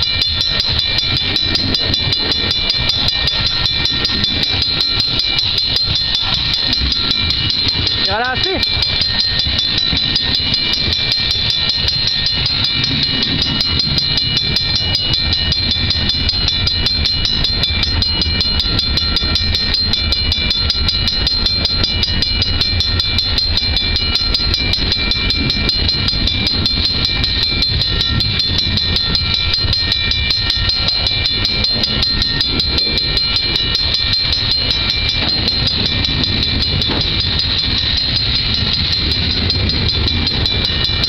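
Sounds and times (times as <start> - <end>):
freight train rumbling past: 0.0 - 41.0
level crossing bell ringing: 0.0 - 41.0.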